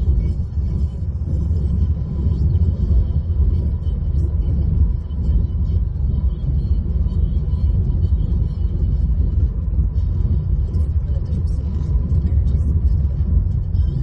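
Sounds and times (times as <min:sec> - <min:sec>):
car rumble from inside cabin: 0:00.0 - 0:14.0.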